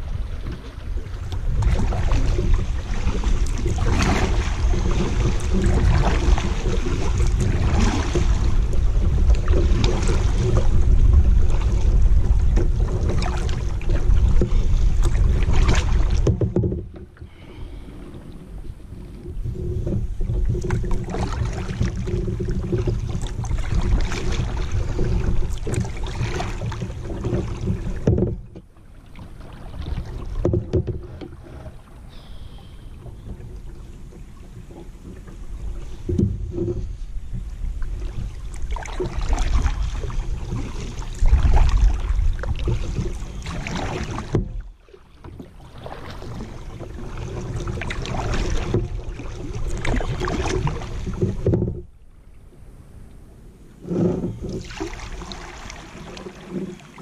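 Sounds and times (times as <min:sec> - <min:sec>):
wind rumble on microphone: 0:00.0 - 0:32.1, 0:32.9 - 0:57.0
water splashing around kayak: 0:00.0 - 0:57.0.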